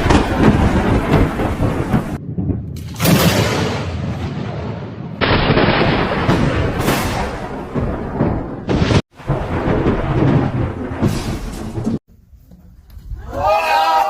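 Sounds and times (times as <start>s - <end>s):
thunder claps and rumbling: 0.0s - 12.1s.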